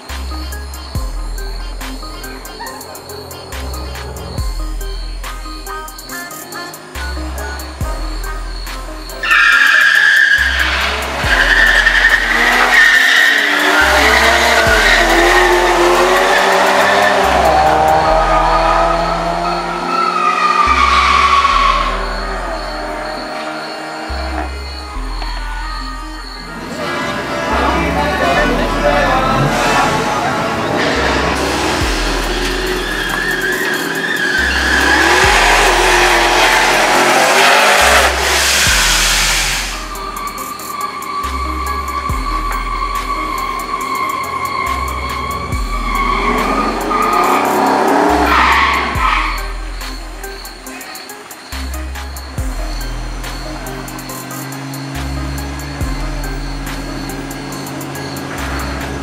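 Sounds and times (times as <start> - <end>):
music with deep bass beat: 0.0 - 26.8, 27.4 - 59.0
cars accelerating hard: 0.0 - 59.0
pickup engines racing: 0.0 - 59.0
tires squealing: 0.0 - 59.0.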